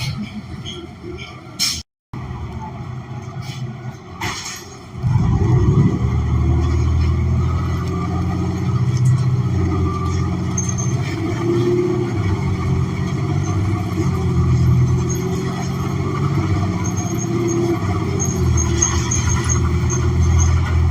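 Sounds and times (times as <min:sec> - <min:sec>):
bus engine under load: 0:00.0 - 0:20.9.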